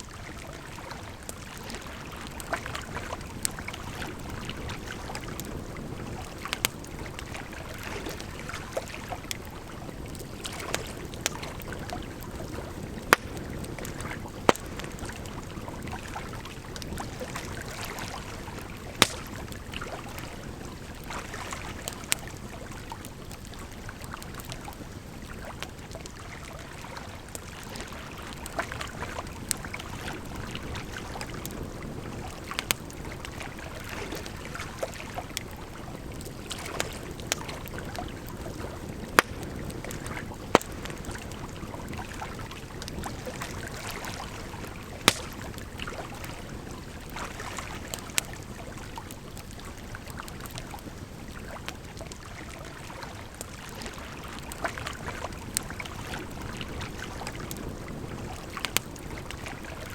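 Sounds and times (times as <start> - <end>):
campfire crackling and popping: 0.1 - 59.9.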